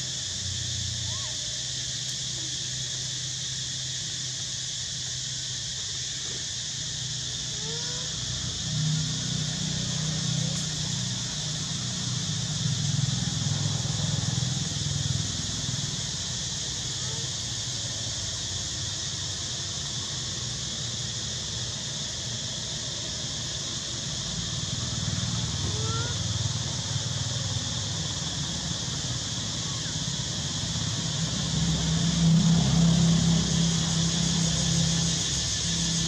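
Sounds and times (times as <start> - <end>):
constant low rumble: 0.0 - 36.0
high-pitched hiss: 0.0 - 36.0.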